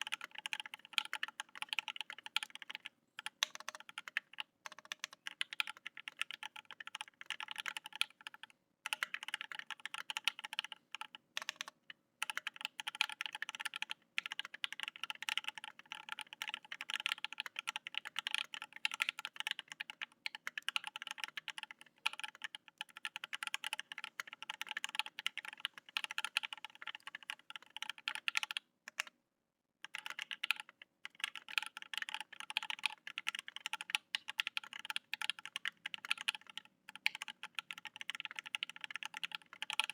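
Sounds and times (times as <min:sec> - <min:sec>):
fast typing on mechanical keyboard: 0:00.0 - 0:29.1, 0:29.9 - 0:39.9.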